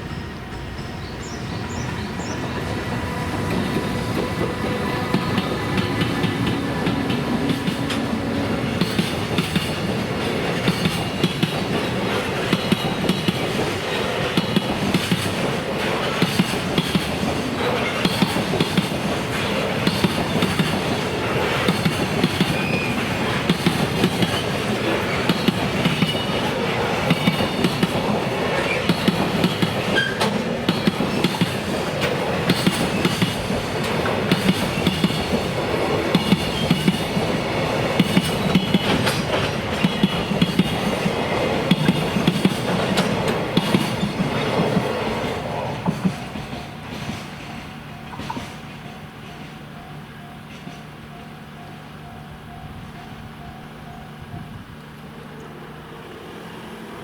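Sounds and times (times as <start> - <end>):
train wheels clacking over rails: 0.0 - 51.0.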